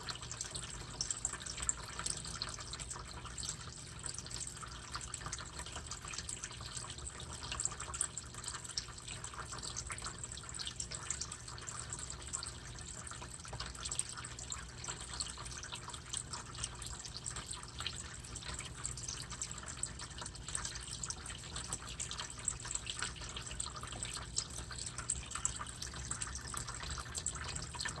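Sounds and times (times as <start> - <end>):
low steady hum: 0.0 - 28.0
water trickling and dripping: 0.0 - 28.0.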